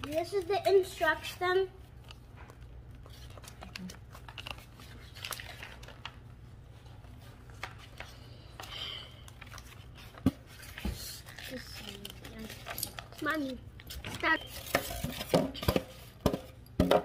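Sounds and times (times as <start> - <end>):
paper and plastic rustling: 0.0 - 16.4.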